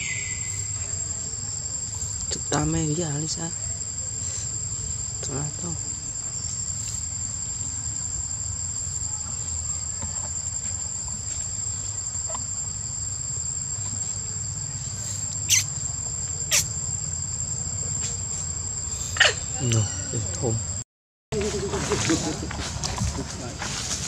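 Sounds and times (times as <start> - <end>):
insect chorus drone: 0.0 - 24.0.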